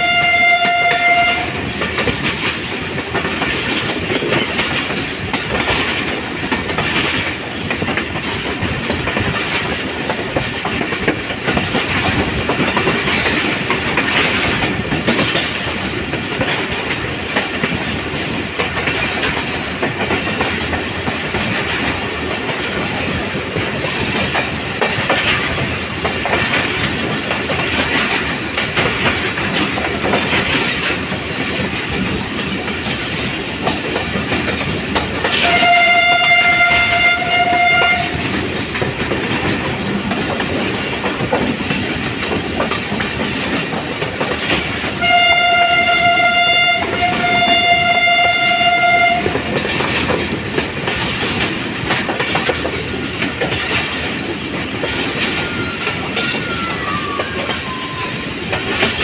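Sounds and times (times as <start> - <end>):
train wheels clattering over rail joints: 0.0 - 59.0.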